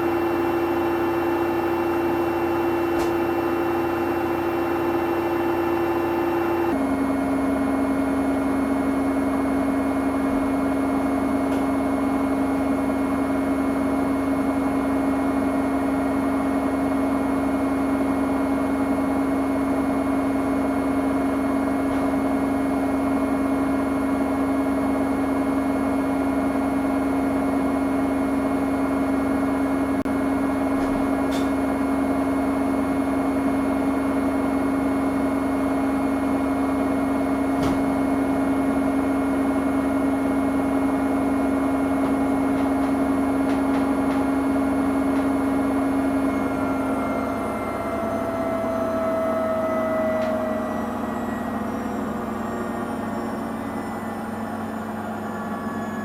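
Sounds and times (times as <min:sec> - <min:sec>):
washing machine motor hum and whine: 0:00.0 - 0:56.0.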